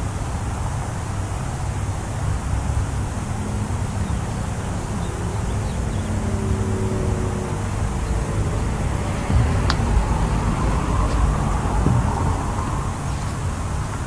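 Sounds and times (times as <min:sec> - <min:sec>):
faint vehicle engine hum: 0:00.0 - 0:14.0
wind rumbling on microphone: 0:00.0 - 0:14.0.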